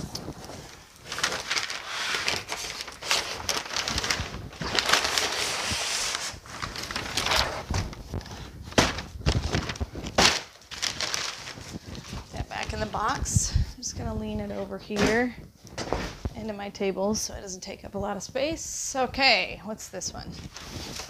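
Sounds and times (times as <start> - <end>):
cardboard and bubble wrap rustling: 0.0 - 16.4, 20.2 - 21.0.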